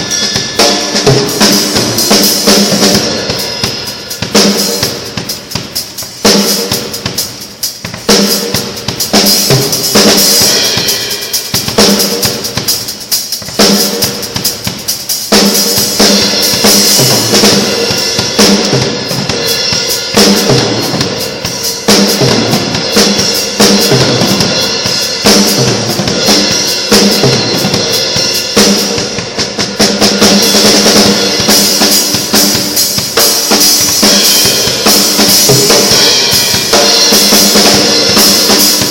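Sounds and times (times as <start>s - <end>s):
drum kit played loudly: 0.0s - 38.9s.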